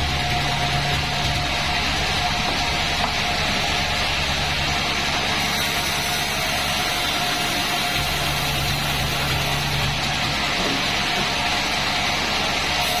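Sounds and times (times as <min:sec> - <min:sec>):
band saw machine humming: 0:00.0 - 0:13.0
machine whine: 0:00.0 - 0:13.0.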